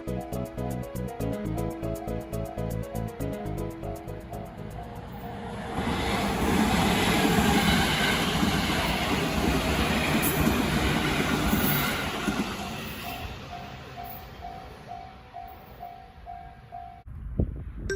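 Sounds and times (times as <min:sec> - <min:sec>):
train passing on rails: 0:00.1 - 0:17.2.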